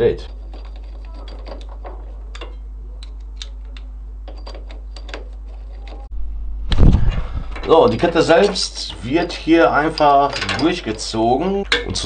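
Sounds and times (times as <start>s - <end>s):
metal parts clicking and rattling: 0.0s - 6.1s, 7.5s - 12.0s
steady low hum: 0.0s - 12.0s.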